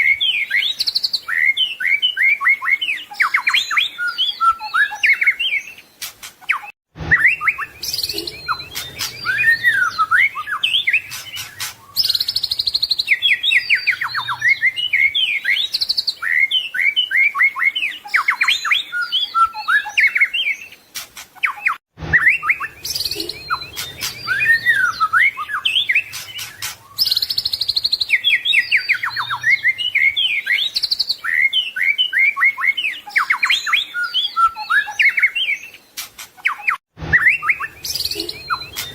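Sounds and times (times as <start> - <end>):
songbird singing whistles and trills: 0.0 - 38.9.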